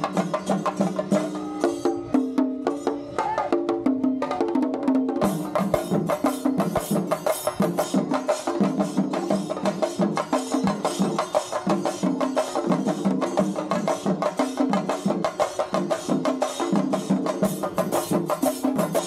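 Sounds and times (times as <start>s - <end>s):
drum ensemble fast rhythm: 0.0s - 19.0s.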